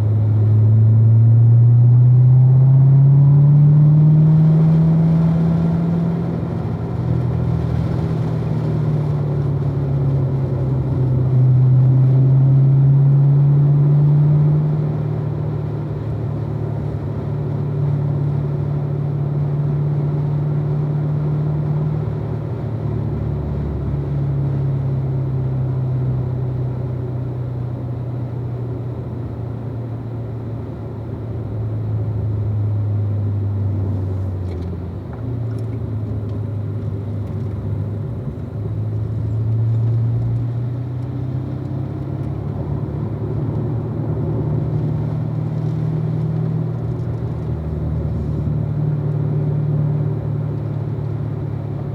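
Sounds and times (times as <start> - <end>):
car engine running at low revs: 0.0 - 51.9.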